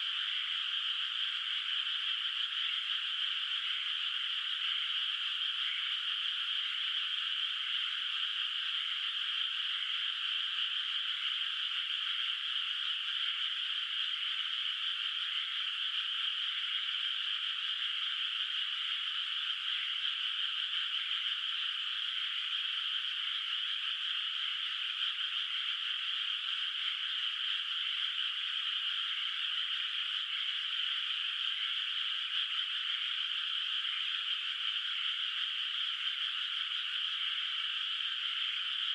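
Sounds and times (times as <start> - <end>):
frogs calling in chorus: 0.0 - 38.9.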